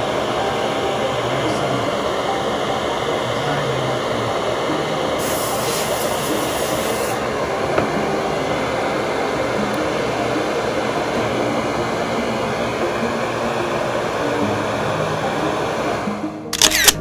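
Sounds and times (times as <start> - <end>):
sharp high hiss: 0.0 - 15.2
machine blowing noise: 0.0 - 17.0.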